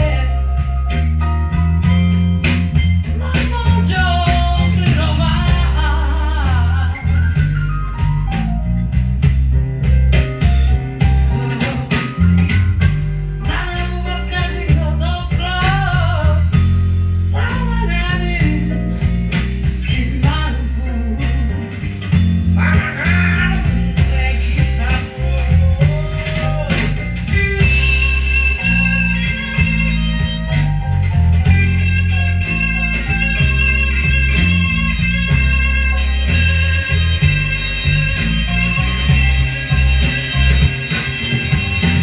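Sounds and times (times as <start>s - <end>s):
blues song from vinyl record: 0.0s - 42.0s.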